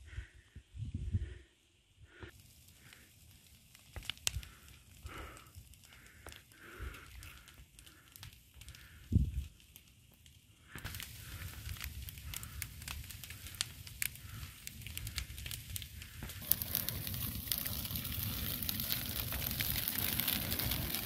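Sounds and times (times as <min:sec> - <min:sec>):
wildfire crackling and popping: 0:02.1 - 0:21.0.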